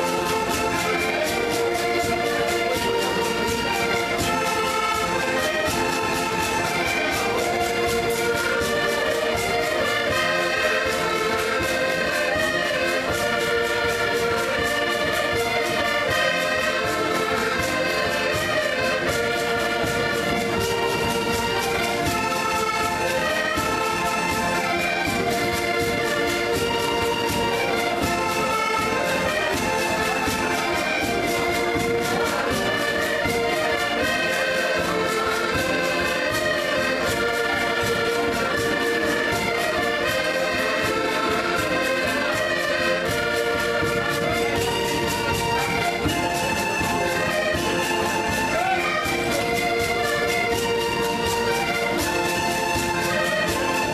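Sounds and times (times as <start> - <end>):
accordion ensemble playing: 0.0 - 53.9.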